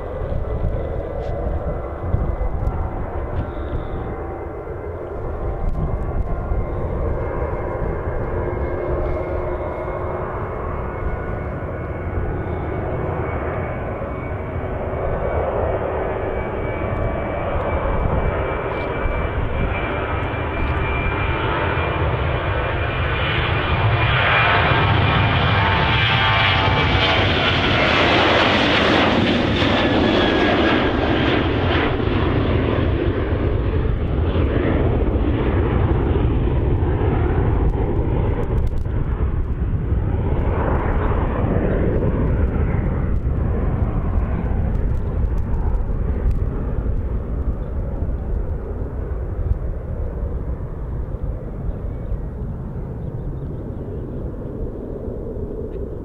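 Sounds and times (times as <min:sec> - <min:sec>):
jet engines at take-off: 0:00.0 - 0:56.0.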